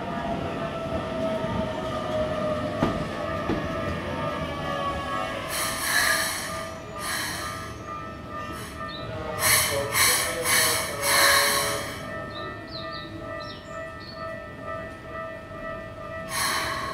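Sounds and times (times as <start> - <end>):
electric train humming: 0.0 - 16.9.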